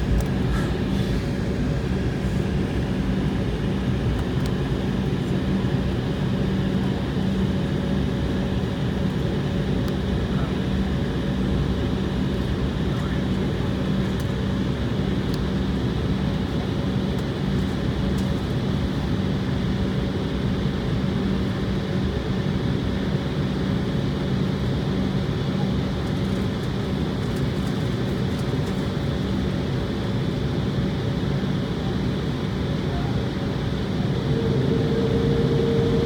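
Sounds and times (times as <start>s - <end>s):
jet engine cabin drone: 0.0s - 36.0s.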